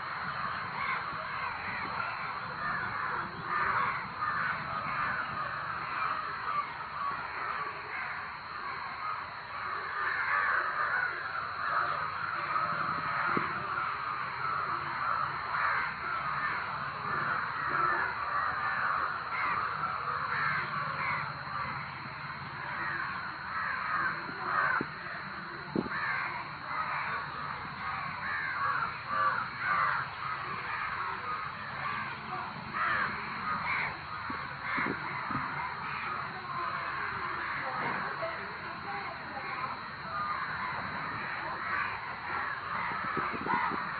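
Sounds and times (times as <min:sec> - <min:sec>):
crows cawing: 0:00.0 - 0:43.9.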